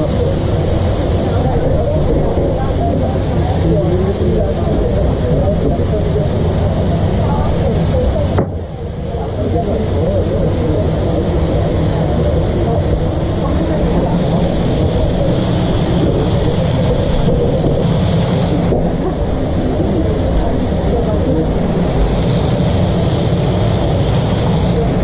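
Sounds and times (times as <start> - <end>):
hiss: 0.0 - 25.0
indistinct voices: 0.0 - 25.0
mechanical hum and rumble: 0.0 - 25.0.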